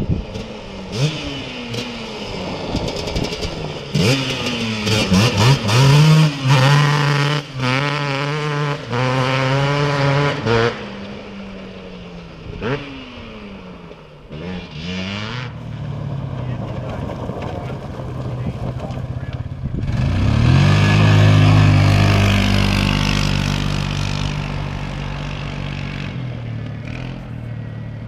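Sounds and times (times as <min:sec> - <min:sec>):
racing atv engines accelerating: 0:00.0 - 0:28.0.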